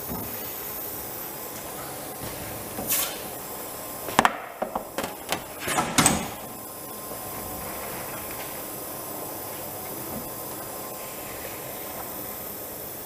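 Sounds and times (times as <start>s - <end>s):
cleaning machine hissing: 0.0s - 4.1s, 4.8s - 13.0s.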